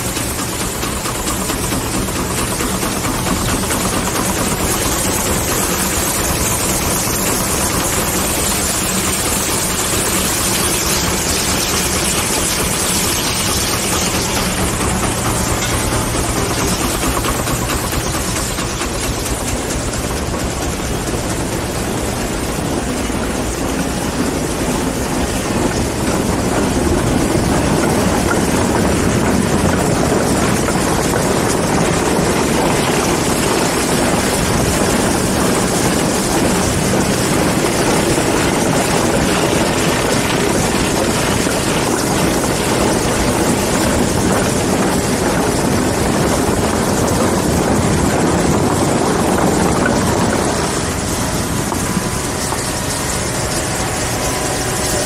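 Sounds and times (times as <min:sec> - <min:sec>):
cider mill mechanical din: 0:00.0 - 0:55.0.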